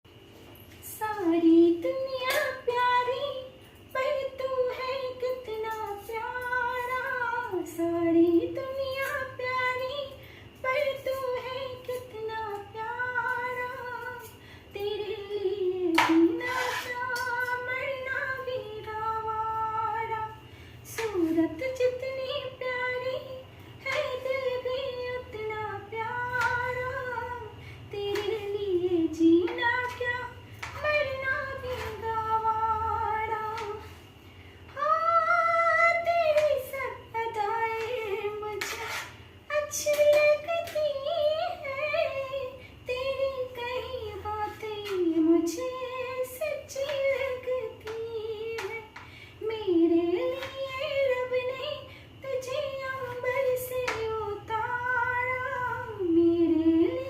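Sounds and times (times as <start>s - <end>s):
woman singing: 0.8s - 34.0s, 34.7s - 57.0s.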